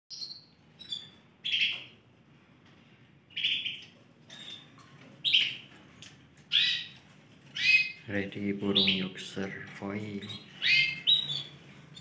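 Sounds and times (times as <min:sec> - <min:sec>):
canaries chirping: 0:00.1 - 0:02.1, 0:03.2 - 0:12.0.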